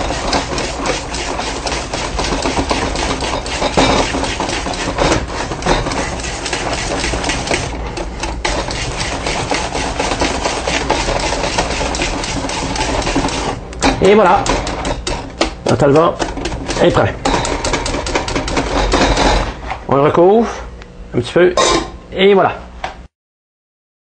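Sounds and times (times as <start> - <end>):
spoon scraping metal pot: 0.0 - 19.5.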